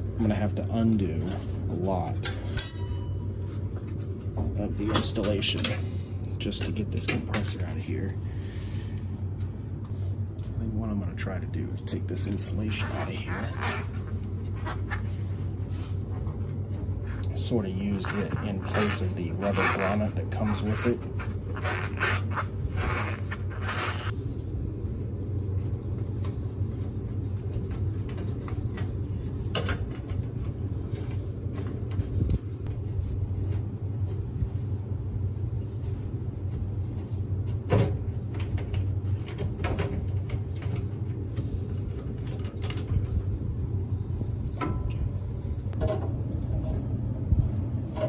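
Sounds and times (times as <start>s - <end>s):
insulation rustling and scraping: 0.0s - 10.3s, 11.1s - 48.0s
steady low hum: 0.0s - 48.0s.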